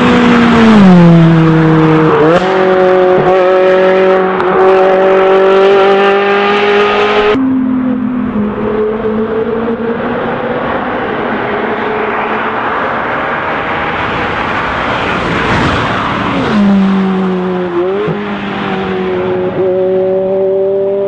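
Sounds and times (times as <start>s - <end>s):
race cars passing by: 0.0s - 21.0s.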